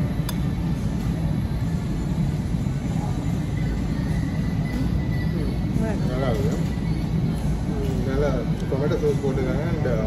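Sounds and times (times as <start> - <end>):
faint indistinct chatter: 0.0 - 10.0
low cafe rumble: 0.0 - 10.0.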